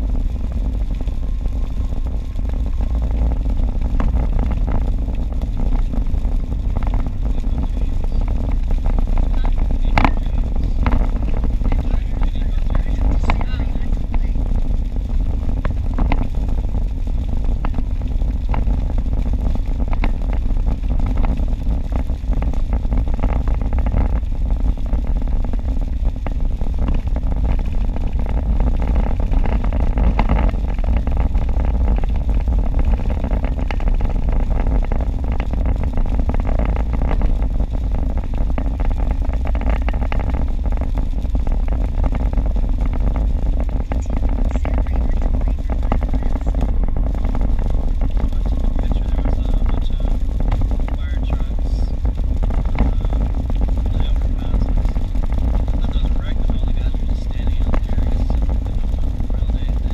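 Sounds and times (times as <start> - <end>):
raindrops ticking on windshield: 0.0 - 59.9
tyre and road noise: 0.0 - 59.9.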